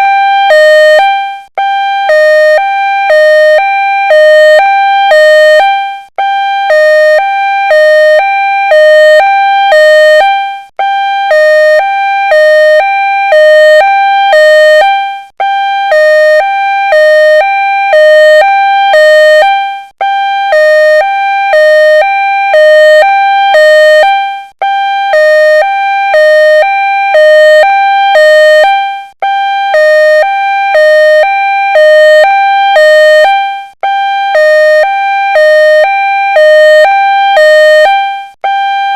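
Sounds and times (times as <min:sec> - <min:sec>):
ambulance siren two-tone: 0:00.0 - 0:38.9.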